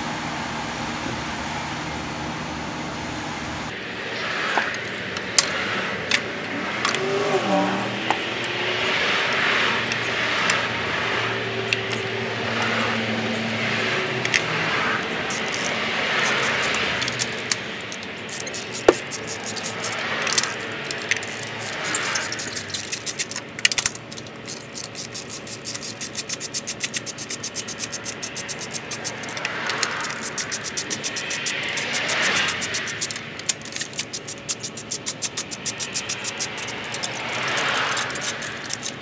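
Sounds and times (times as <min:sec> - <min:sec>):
parts rubbing and scraping: 0:03.7 - 0:39.0
socket ratchet clicking: 0:04.6 - 0:13.0, 0:14.2 - 0:39.0.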